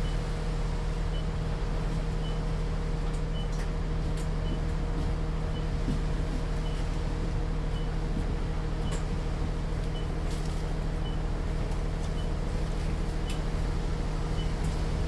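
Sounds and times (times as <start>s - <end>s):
bus engine hum and rumble: 0.0s - 15.0s.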